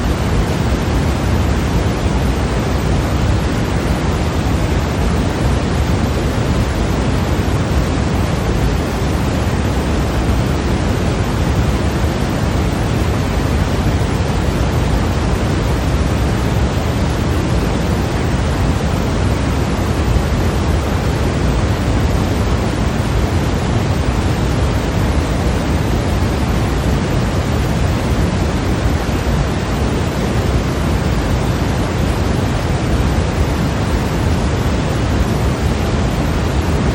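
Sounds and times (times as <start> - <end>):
steady white noise: 0.0 - 36.9.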